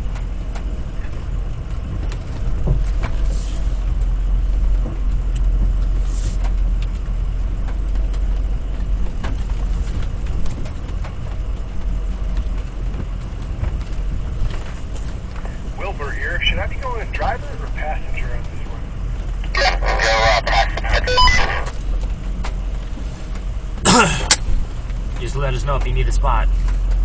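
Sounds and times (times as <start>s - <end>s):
truck engine low rumble: 0.0s - 27.0s.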